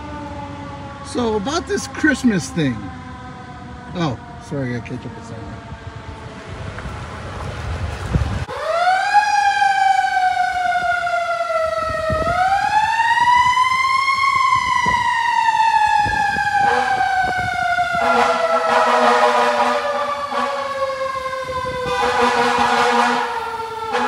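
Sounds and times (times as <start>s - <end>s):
fire truck siren: 0.0s - 24.0s.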